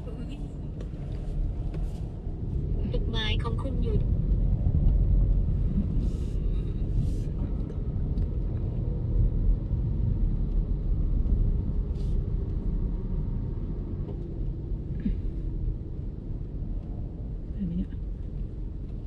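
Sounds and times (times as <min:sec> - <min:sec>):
car rumble inside cabin: 0:00.0 - 0:19.0.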